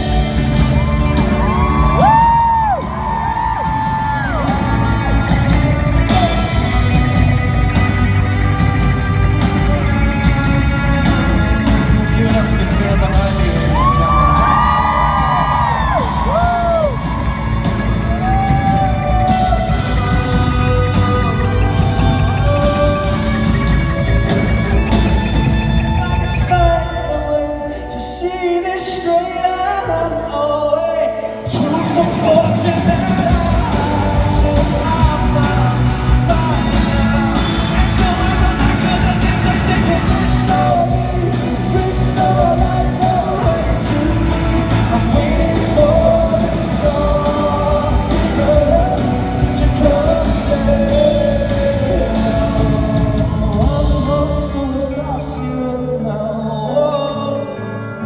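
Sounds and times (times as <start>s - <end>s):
live rock band: 0.0s - 58.0s
man singing: 0.0s - 58.0s.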